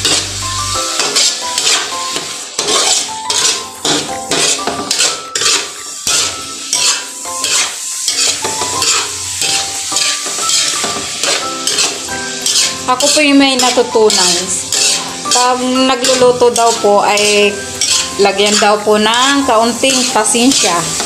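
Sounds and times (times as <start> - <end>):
spatula scraping metal wok: 0.0 - 21.0
vegetables sizzling: 0.0 - 21.0.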